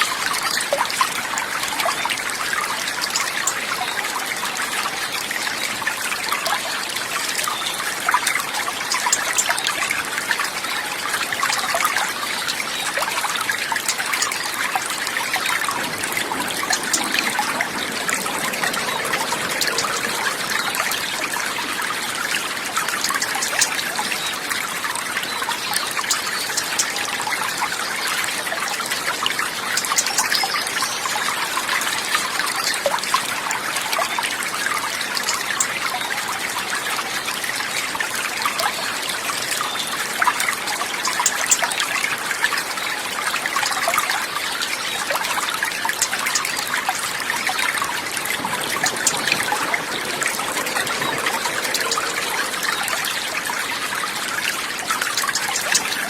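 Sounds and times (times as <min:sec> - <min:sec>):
small stream babbling: 0:00.0 - 0:56.0.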